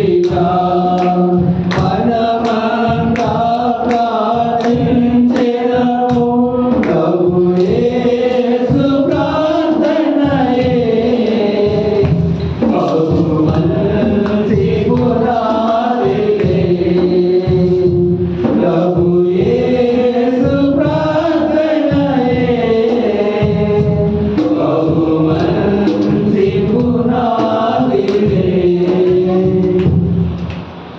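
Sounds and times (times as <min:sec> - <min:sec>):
man singing into microphone: 0:00.0 - 0:30.0.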